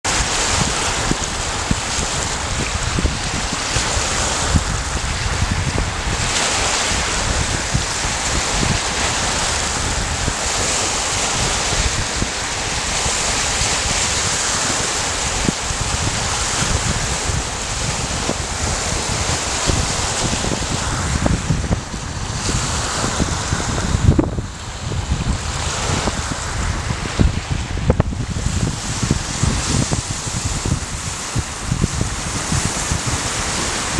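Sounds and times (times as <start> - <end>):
waves washing over pebbles: 0.0 - 33.9
wind buffeting microphone: 0.0 - 33.9.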